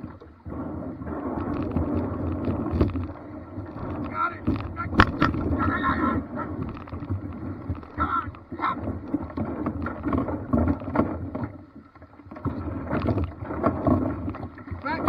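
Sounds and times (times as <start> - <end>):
water and hull noise: 0.0 - 15.0.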